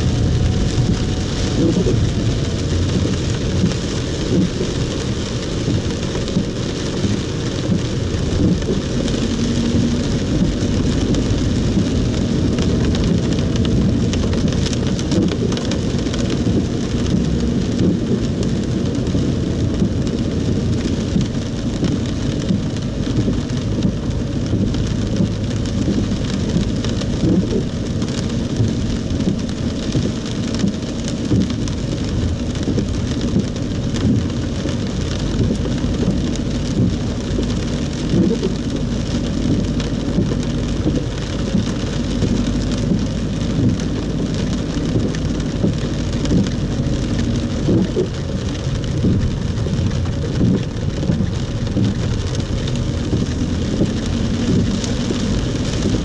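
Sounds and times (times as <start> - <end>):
car rumble on wet road: 0.0 - 56.0
heavy rain on car roof: 0.0 - 56.0.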